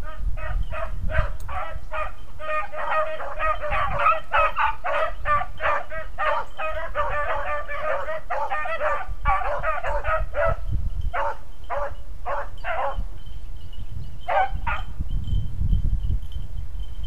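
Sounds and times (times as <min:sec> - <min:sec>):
beagles baying: 0:00.0 - 0:13.1, 0:14.2 - 0:15.0.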